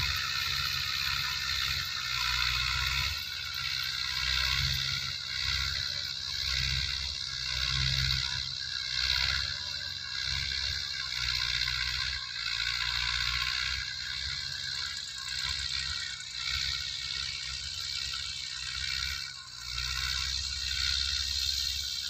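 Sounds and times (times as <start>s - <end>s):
tractor diesel engine rattling: 0.0s - 22.0s.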